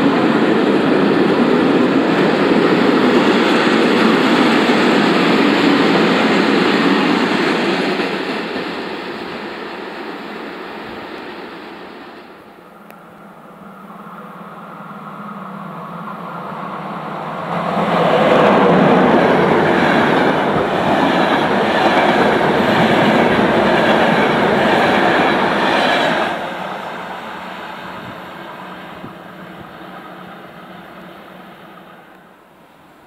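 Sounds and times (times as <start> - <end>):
passenger train passing: 0.0 - 33.0
steel wheels on rails: 0.0 - 33.0.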